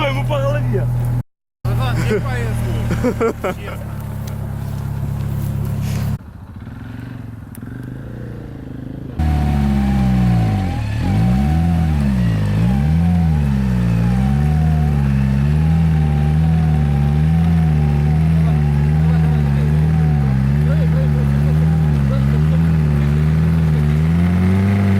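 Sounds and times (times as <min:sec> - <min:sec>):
off-road vehicle engine revving: 0:00.0 - 0:24.9.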